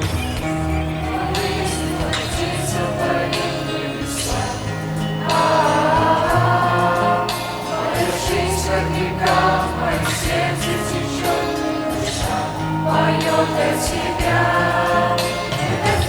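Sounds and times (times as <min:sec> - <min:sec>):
choir singing worship song: 0:00.0 - 0:16.0
instrumental accompaniment: 0:00.0 - 0:16.0.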